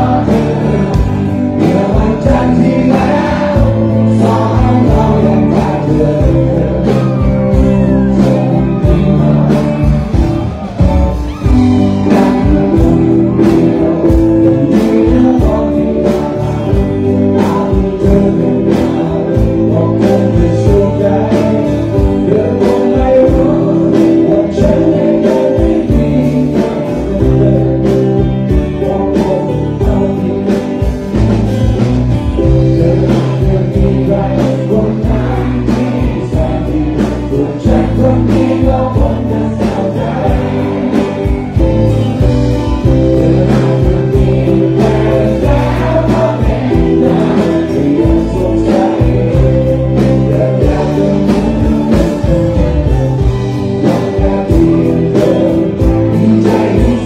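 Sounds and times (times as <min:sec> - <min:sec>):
person singing: 0:00.0 - 0:31.6, 0:32.4 - 0:57.0
live rock band playing: 0:00.0 - 0:57.0.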